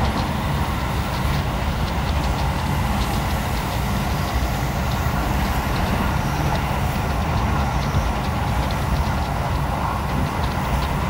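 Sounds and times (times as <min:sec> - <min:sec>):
faint irregular ticks: 0:00.0 - 0:11.0
hiss: 0:00.0 - 0:11.0
train wheels rumbling on rail: 0:00.0 - 0:11.0.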